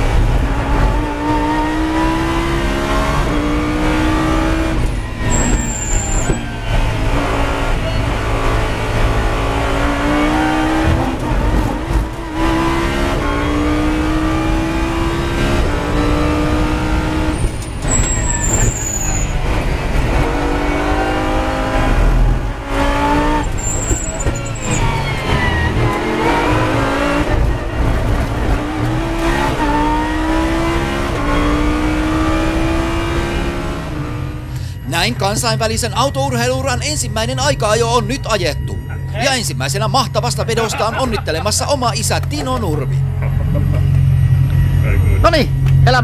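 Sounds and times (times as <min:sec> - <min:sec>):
race car engine revving: 0:00.0 - 0:46.0.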